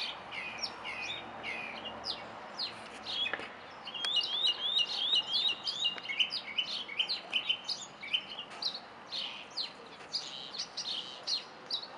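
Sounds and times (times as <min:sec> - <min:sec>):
songbirds chirping: 0:00.0 - 0:11.9.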